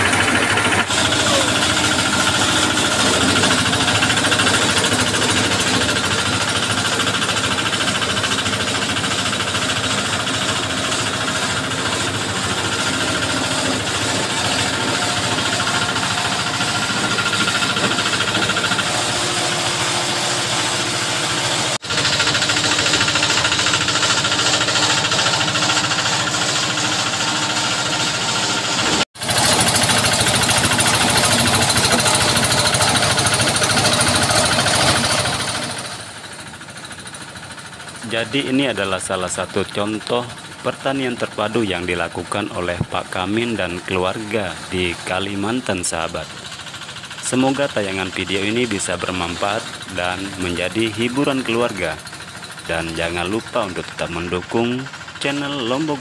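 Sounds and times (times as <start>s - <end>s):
chopper rattling chop: 0.0s - 56.0s
small engine running: 0.0s - 56.0s.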